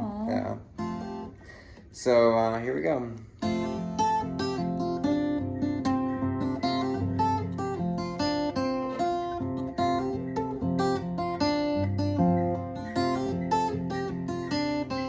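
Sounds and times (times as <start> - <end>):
acoustic guitar strumming chords: 0.0 - 1.8, 3.3 - 15.0.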